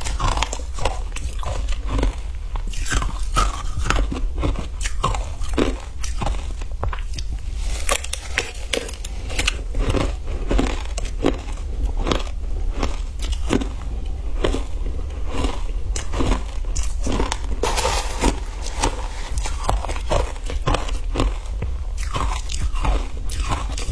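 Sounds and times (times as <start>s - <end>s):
ice being chewed: 0.0s - 23.9s.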